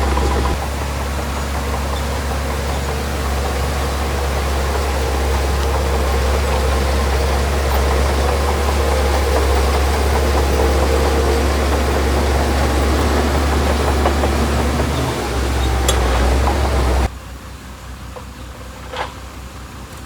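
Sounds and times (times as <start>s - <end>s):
heavy diesel engine running: 0.0s - 19.9s.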